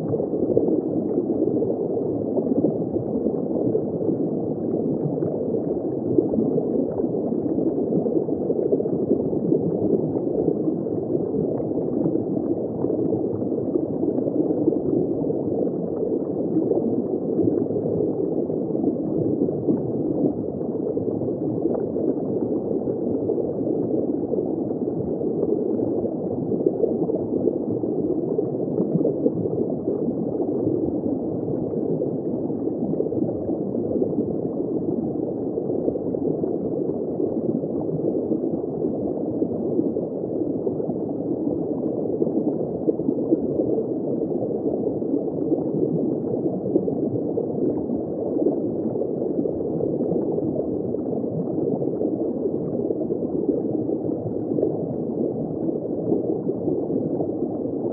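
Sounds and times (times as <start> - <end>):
aquarium water gurgling: 0.0 - 57.9.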